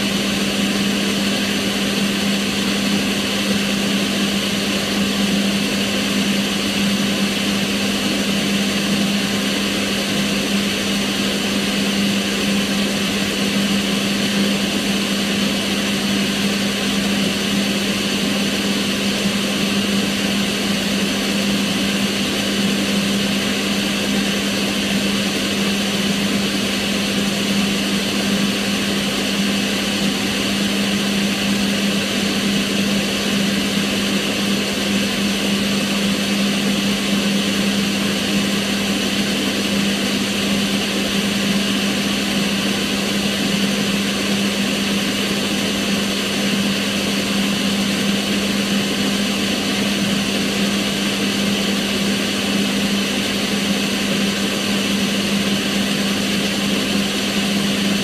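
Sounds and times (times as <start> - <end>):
extractor fan running: 0.0 - 58.0.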